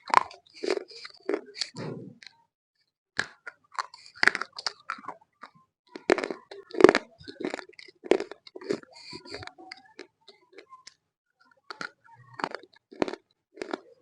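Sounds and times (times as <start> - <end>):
clay being chewed crunching: 0.0 - 2.4, 3.2 - 14.0.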